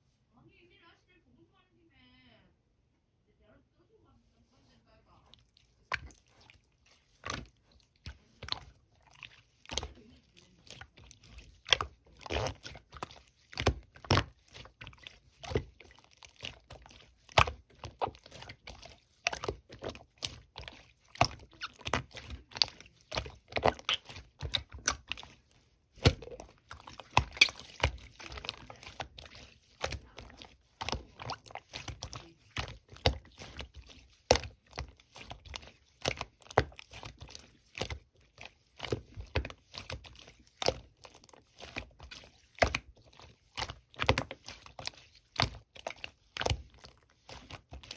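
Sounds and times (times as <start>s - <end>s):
slime squishing and popping: 5.4s - 47.9s.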